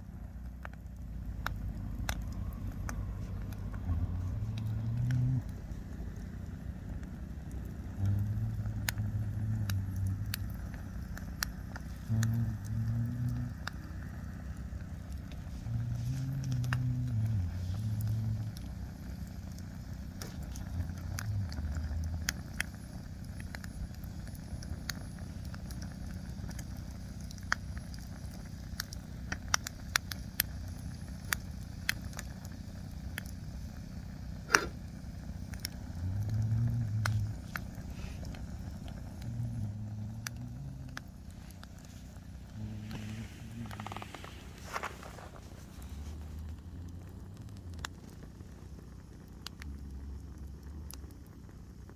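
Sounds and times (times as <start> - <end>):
fire crackling and popping: 0.0 - 51.9
low rumble: 0.0 - 51.9.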